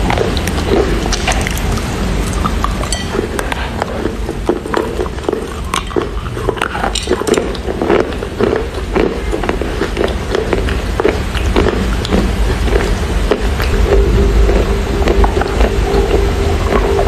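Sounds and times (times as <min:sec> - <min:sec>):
steady low hum: 0:00.0 - 0:17.0
wet chewing mouth smacks: 0:00.0 - 0:17.0.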